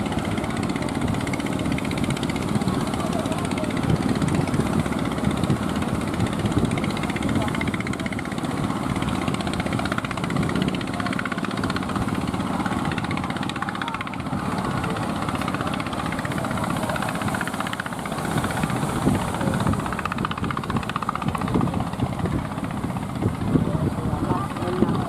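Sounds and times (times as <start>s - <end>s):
engine running with fast pulse: 0.0s - 25.0s.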